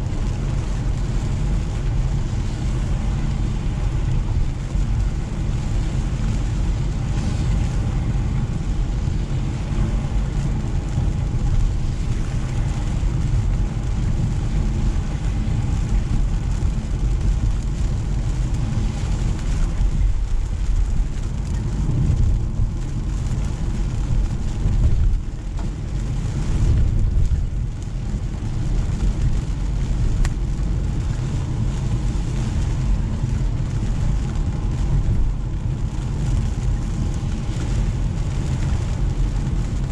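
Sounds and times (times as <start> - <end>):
rain hissing and tyre spray: 0.0 - 39.9.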